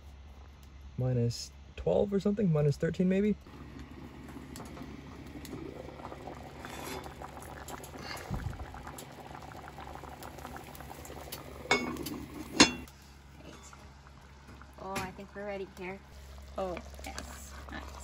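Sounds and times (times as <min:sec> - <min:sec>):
stew bubbling in a pot: 0:03.4 - 0:18.0.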